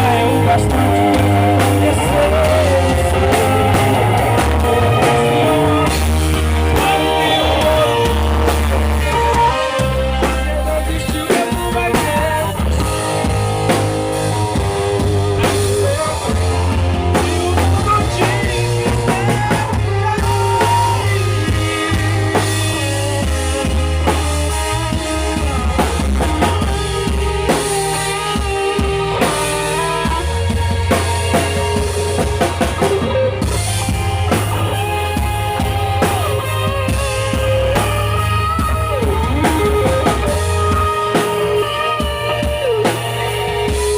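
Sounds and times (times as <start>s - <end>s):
live band playing: 0.0s - 43.9s
sustained lead melody: 0.0s - 43.9s.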